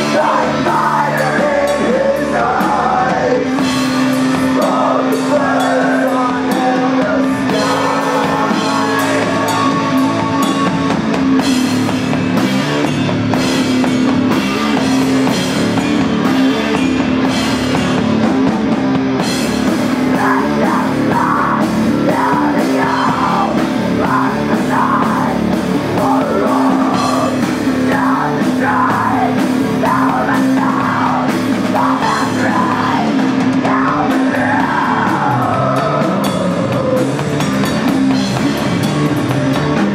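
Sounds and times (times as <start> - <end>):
live heavy rock band: 0.0 - 39.9.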